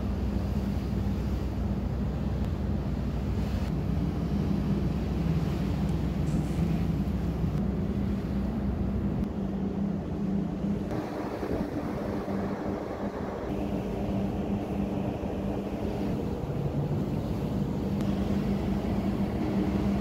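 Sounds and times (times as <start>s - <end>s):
ship engine hum: 0.0s - 20.0s.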